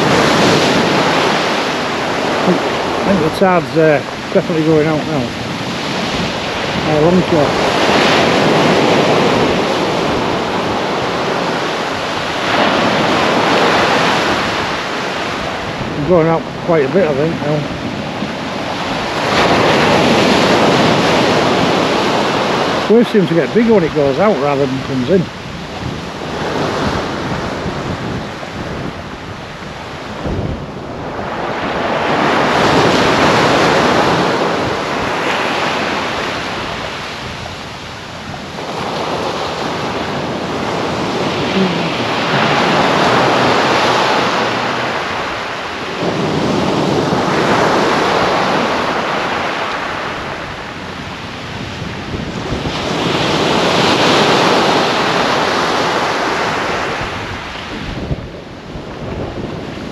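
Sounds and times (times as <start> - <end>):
surf washing up a beach: 0.0 - 59.9.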